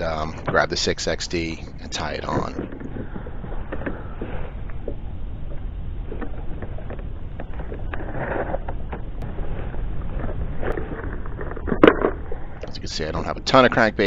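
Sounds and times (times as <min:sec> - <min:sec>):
steady low rumble: 0:00.0 - 0:14.0
wind on camera microphone: 0:00.0 - 0:14.0.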